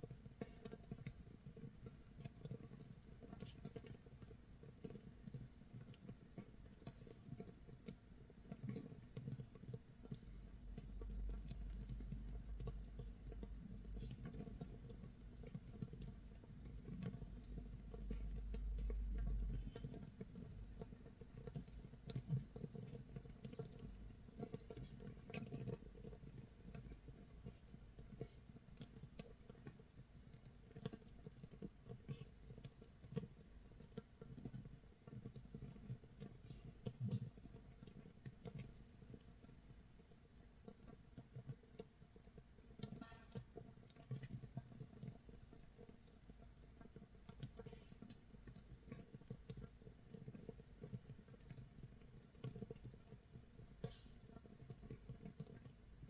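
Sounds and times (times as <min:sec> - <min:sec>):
fermenting bubbles popping: 0:00.0 - 0:39.6, 0:40.6 - 0:56.0.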